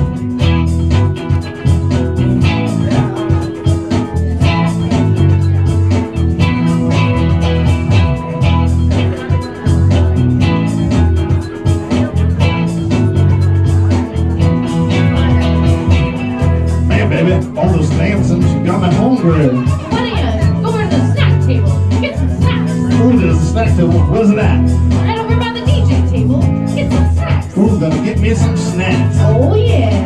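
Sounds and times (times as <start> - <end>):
bass line: 0.0 - 30.0
drum beat: 0.0 - 30.0
electric guitar: 0.0 - 30.0
keyboard: 0.0 - 30.0.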